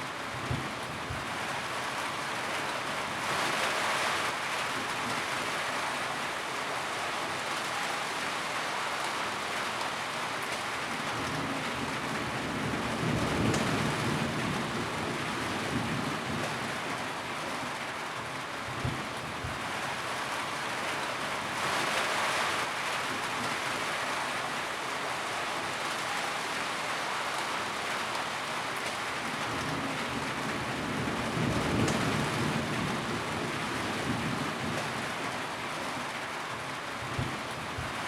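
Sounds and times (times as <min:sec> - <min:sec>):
rain on a tin roof: 0:00.0 - 0:38.0.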